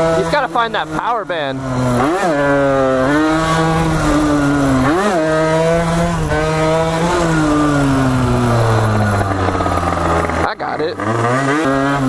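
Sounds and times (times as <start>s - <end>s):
two-stroke dirt bike engine revving: 0.0s - 12.0s.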